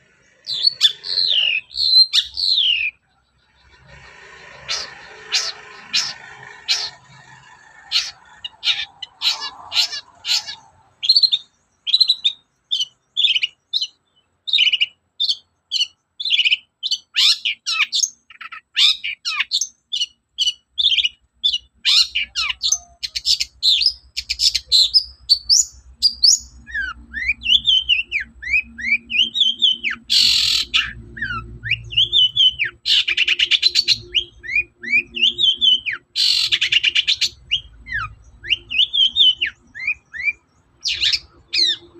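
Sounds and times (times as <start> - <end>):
harsh rasping bird calls: 0.0 - 41.9
bird singing chirps and whistles: 0.4 - 3.0, 8.0 - 41.9.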